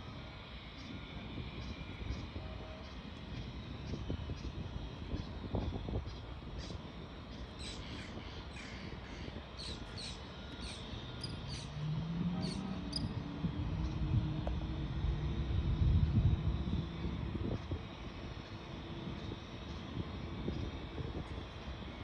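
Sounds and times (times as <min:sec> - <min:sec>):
low motor hum: 0:00.0 - 0:22.0
steady low rumble: 0:00.0 - 0:22.0.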